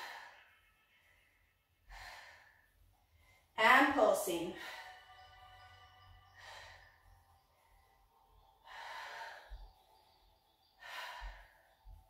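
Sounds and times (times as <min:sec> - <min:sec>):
woman breathing hard: 0:00.0 - 0:03.6, 0:04.5 - 0:12.0.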